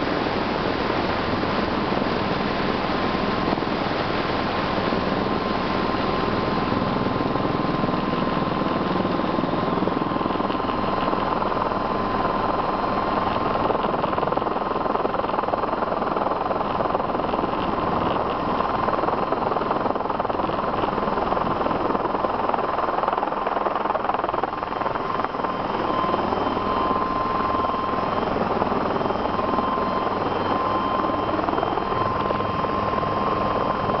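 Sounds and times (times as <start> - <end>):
helicopter hovering: 0.0 - 34.0
high whine: 0.0 - 34.0.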